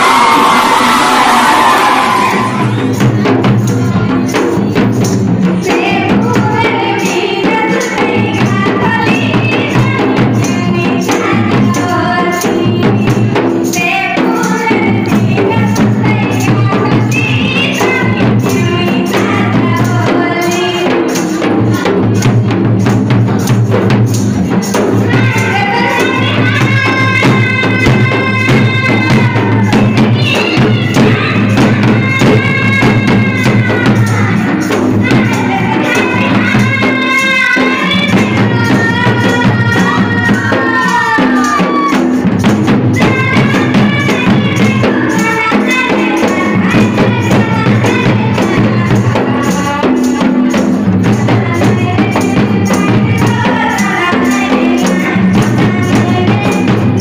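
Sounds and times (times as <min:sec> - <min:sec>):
hand drums beating: 0:01.6 - 0:57.0.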